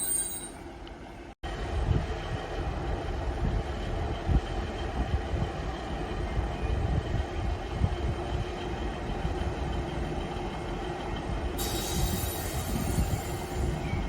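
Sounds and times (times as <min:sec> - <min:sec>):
diesel train engine rumbling: 0:00.0 - 0:14.0.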